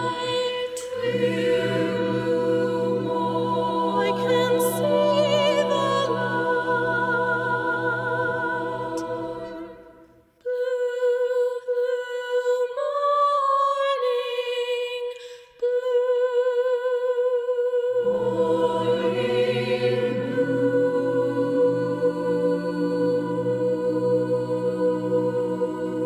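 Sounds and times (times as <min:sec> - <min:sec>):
choir sustained chord: 0:00.0 - 0:13.1, 0:16.0 - 0:26.0.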